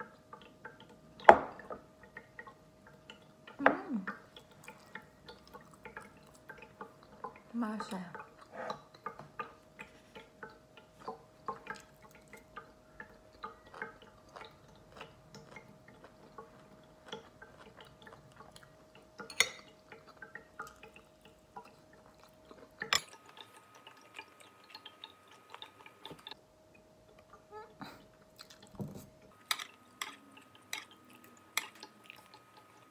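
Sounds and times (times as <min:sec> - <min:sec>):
faint steady hum: 0:00.0 - 0:32.9.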